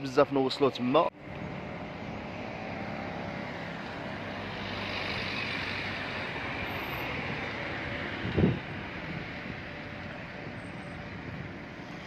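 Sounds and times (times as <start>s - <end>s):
road noise: 0.0s - 12.0s
vehicle engines humming: 0.0s - 12.0s.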